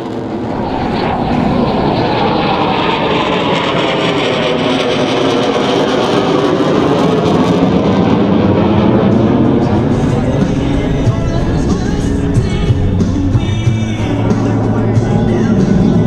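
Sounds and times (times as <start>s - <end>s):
jet flying overhead: 0.0s - 16.0s.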